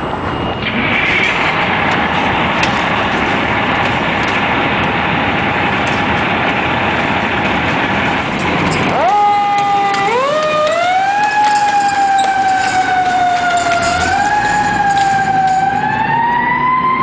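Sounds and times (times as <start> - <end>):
fire engine siren: 0.0 - 17.0
rushing vehicle noise: 0.0 - 17.0.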